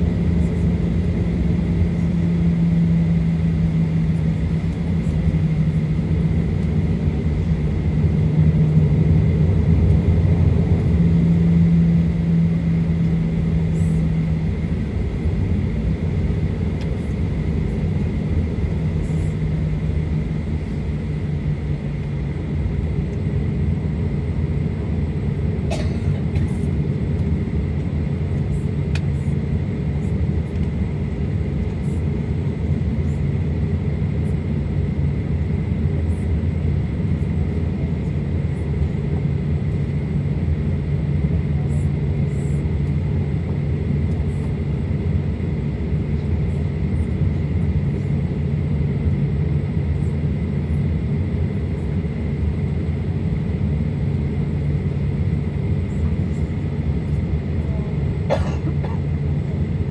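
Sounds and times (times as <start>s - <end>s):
jet engines idling drone: 0.0s - 59.9s.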